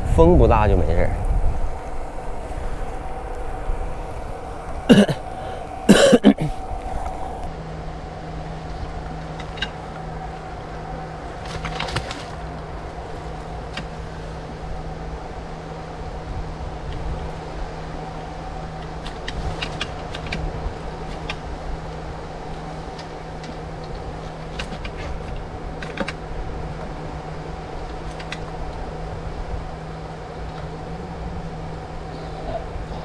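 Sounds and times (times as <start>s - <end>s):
high whine: 0.0s - 33.0s
machine hum with low drone: 0.0s - 33.0s.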